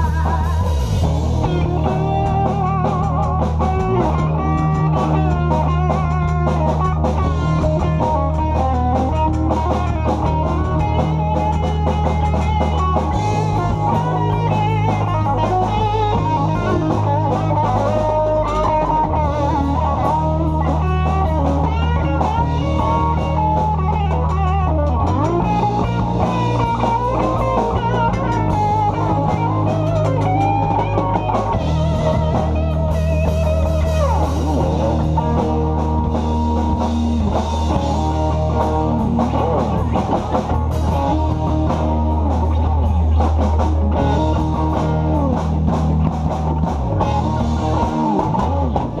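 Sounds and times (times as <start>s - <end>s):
bass: 0.0s - 49.0s
drum beat: 0.0s - 49.0s
electric guitars: 0.0s - 49.0s
keyboard: 0.0s - 49.0s.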